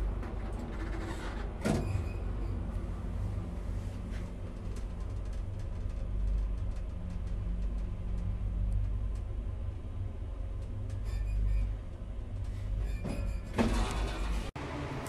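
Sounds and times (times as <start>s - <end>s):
elevator hum and rumble: 0.0s - 15.0s.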